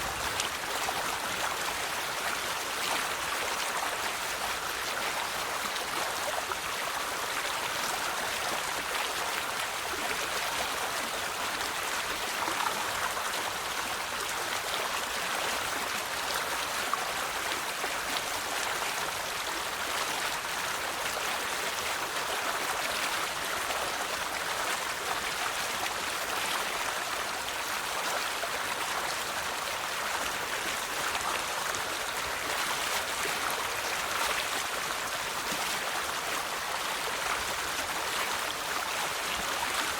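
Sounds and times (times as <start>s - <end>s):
river babbling over stones: 0.0s - 39.9s.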